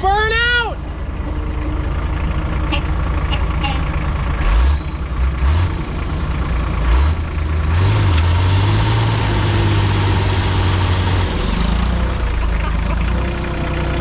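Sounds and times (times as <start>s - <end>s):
truck engine revving: 0.8s - 14.0s.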